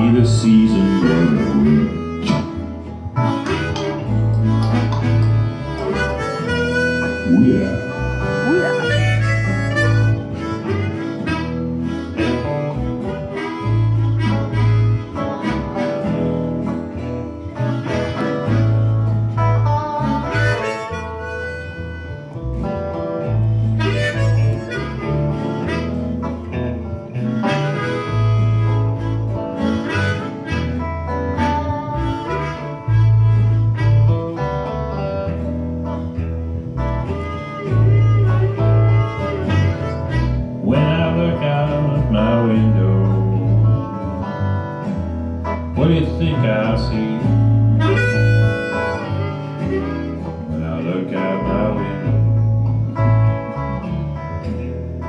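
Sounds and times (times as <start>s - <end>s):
bass riff: 0.0s - 55.0s
guitar and keyboard: 0.0s - 55.0s
lead line with bending notes: 0.0s - 55.0s.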